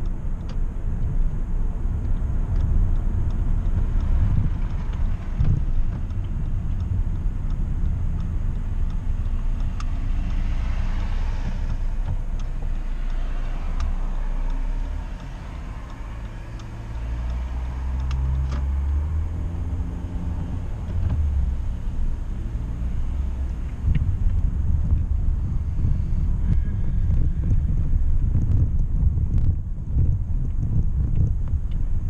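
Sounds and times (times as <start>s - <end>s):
car engine running: 0.0s - 32.0s
road rumble: 0.0s - 32.0s.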